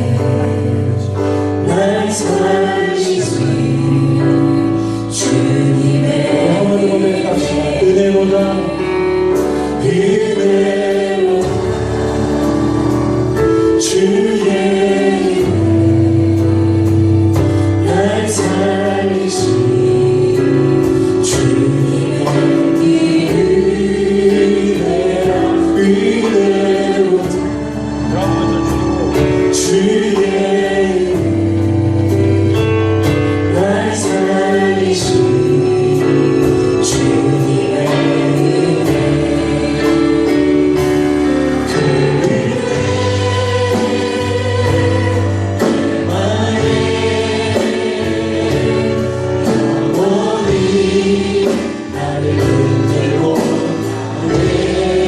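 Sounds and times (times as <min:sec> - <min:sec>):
band with bass and drums: 0:00.0 - 0:55.0
choir singing gospel song: 0:00.0 - 0:55.0.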